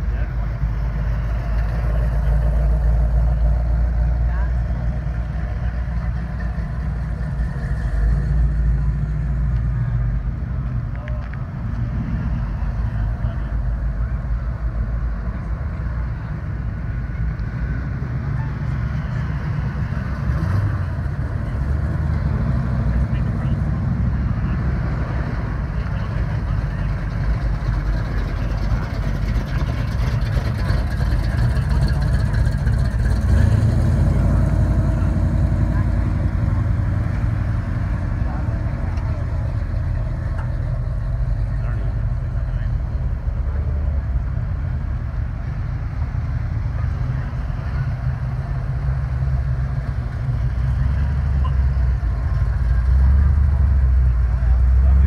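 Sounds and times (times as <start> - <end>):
cars driving slowly past: 0.0 - 55.0.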